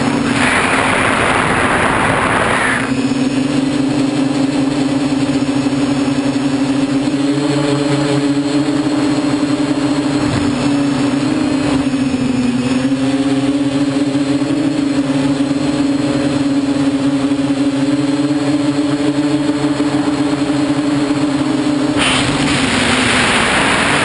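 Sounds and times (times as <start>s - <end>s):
quadcopter motors humming: 0.0s - 24.0s.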